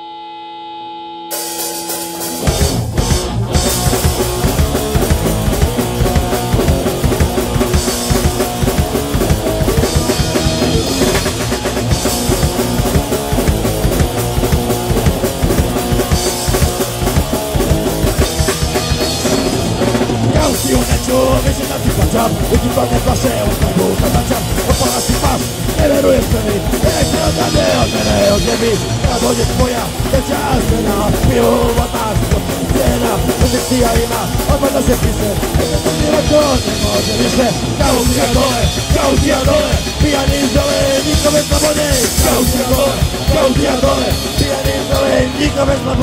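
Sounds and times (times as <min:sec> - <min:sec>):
rock band playing: 0:01.0 - 0:46.0.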